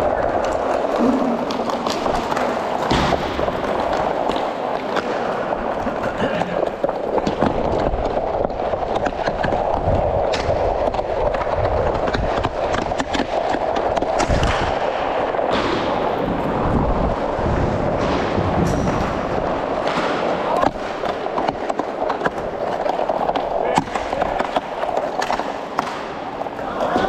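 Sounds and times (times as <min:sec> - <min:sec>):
skate blades scraping ice: 0:00.0 - 0:27.0
skates gliding on ice: 0:00.0 - 0:27.0
hockey stick and puck clicks: 0:00.2 - 0:16.2, 0:19.8 - 0:27.0.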